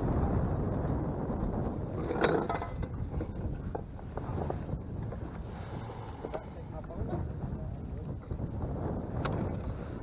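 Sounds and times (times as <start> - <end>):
wind rumbling over microphone: 0.0 - 10.0.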